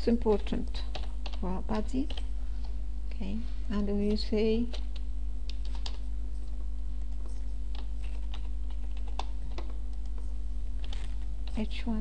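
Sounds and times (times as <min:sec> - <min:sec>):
computer keyboard typing: 0:00.0 - 0:02.3, 0:04.0 - 0:11.7
low hum: 0:00.0 - 0:12.0.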